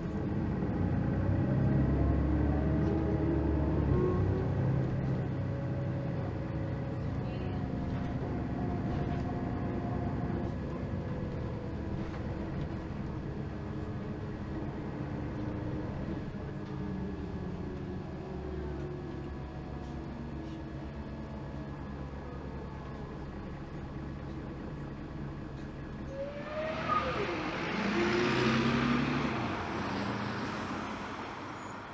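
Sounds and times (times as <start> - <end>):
bus engine drone: 0.0 - 31.9
road rumble: 0.0 - 31.9.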